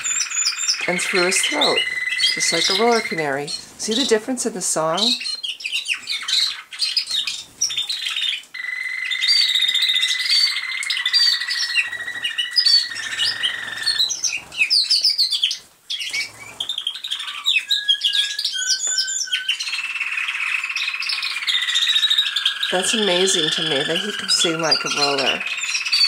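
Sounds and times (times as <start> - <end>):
canary singing: 0.0 - 26.0.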